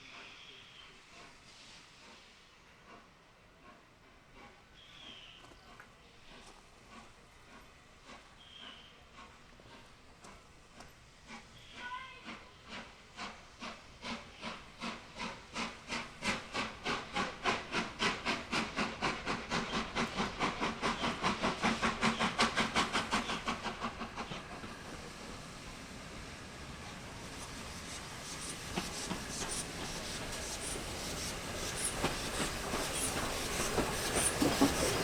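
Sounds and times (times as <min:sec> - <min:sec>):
steam locomotive exhaust beats: 0:00.0 - 0:35.0.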